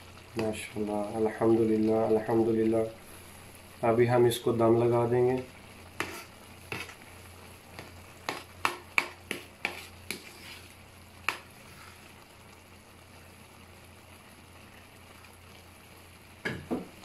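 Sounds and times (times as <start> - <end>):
rice sizzling: 0.0 - 17.0.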